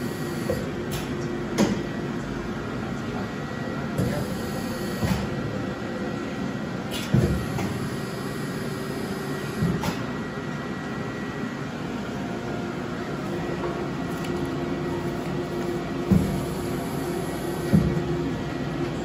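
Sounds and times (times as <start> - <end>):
embossing machines humming: 0.0 - 19.0.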